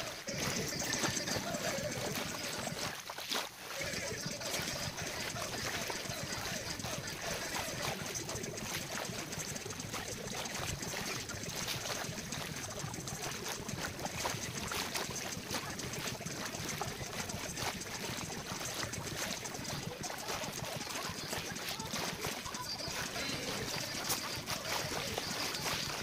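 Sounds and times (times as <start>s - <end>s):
small waves lapping on sand: 0.0s - 26.0s.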